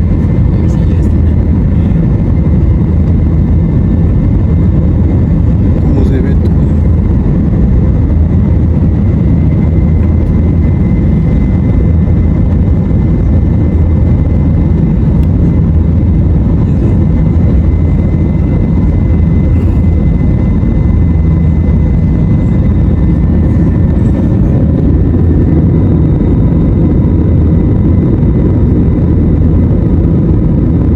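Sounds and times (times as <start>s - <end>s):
jet engine high whine: 0.0s - 30.9s
jet engine low rumble: 0.0s - 30.9s.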